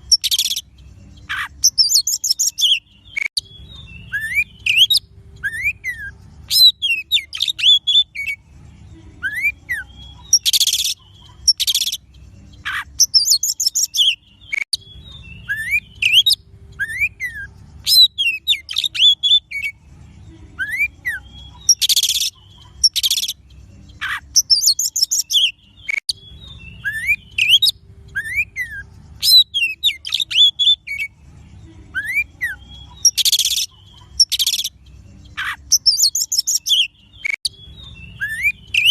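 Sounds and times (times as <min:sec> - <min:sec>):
songbird whistling and trilling: 0:00.0 - 0:08.4, 0:09.2 - 0:19.8, 0:20.6 - 0:31.2, 0:31.9 - 0:38.9.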